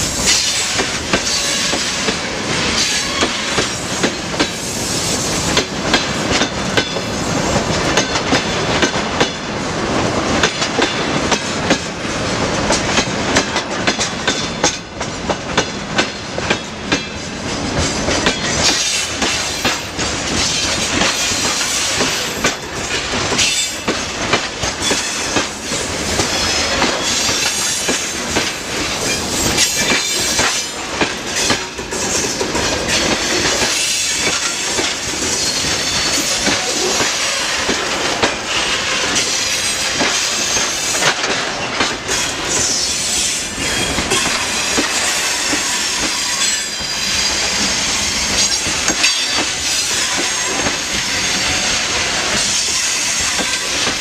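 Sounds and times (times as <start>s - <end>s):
freight train rumbling past: 0.0s - 54.0s
wheels clacking over rail joints: 5.5s - 54.0s.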